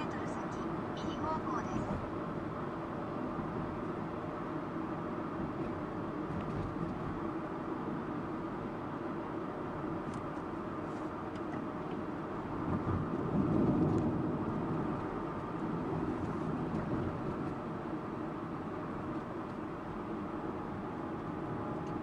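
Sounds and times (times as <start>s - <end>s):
car road noise: 0.0s - 22.0s.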